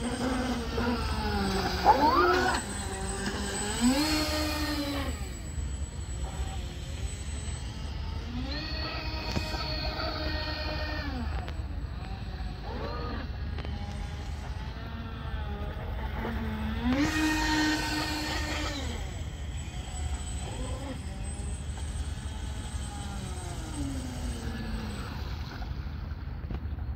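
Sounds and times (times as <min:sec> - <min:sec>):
electric motors whining: 0:00.0 - 0:26.9.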